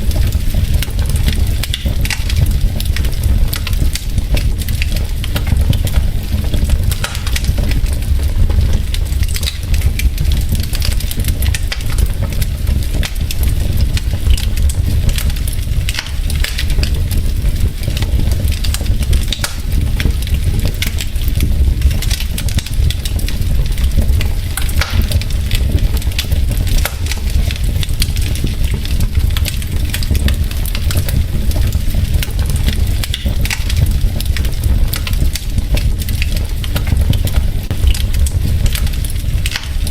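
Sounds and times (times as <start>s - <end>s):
logs crackling in fireplace: 0.0s - 39.9s
low rumble of fire: 0.0s - 39.9s.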